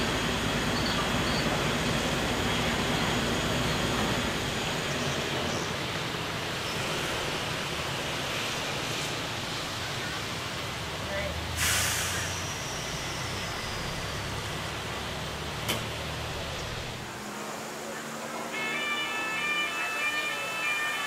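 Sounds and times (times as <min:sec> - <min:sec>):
diesel locomotive running: 0:00.0 - 0:21.0.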